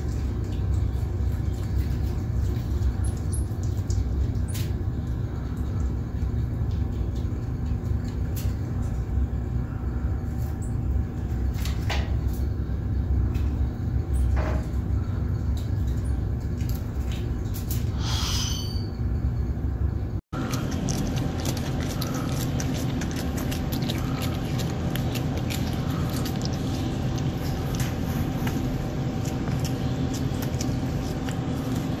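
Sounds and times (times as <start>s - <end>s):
room hum and rumble: 0.0s - 32.0s.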